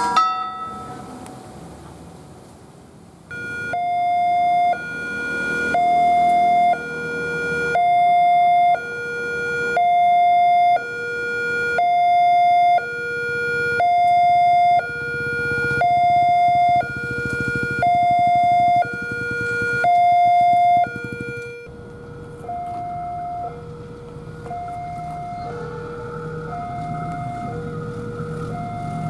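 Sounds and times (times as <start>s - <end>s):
level crossing two-tone alarm: 3.3s - 21.7s, 22.4s - 29.0s.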